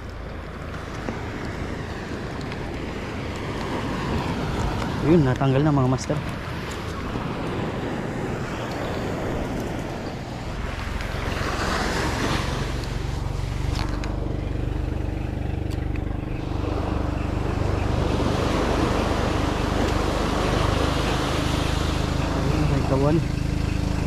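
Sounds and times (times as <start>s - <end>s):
motor engine humming: 0.0s - 24.0s.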